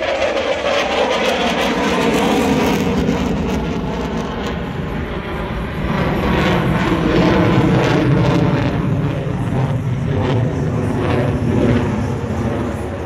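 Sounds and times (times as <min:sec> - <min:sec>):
fighter jet passing overhead: 0:00.0 - 0:13.0.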